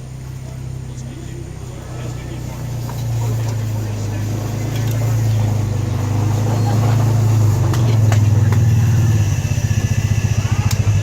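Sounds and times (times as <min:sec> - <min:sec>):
motor humming and throbbing: 0:00.0 - 0:11.0.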